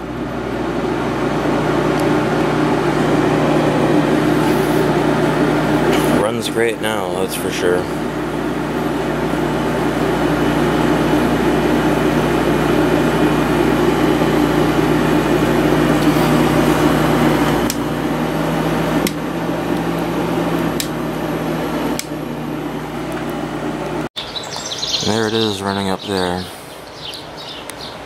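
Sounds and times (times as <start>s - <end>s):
compressor hum: 0.0s - 28.0s
fan air rushing: 0.0s - 28.0s.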